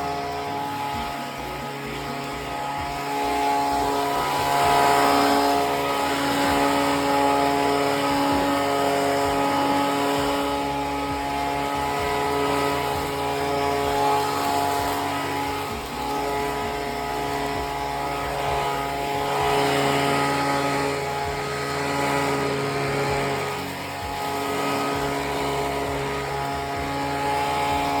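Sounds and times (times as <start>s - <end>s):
small gasoline engine running: 0.0s - 28.0s.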